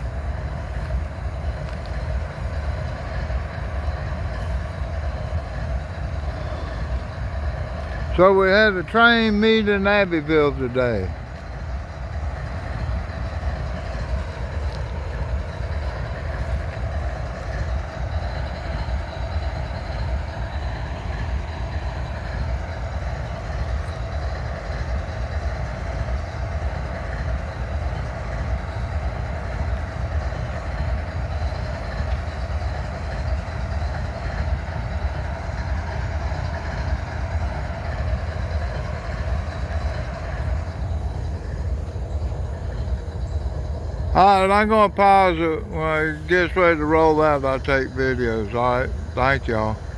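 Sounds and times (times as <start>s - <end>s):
diesel locomotive idling: 0.0s - 49.9s.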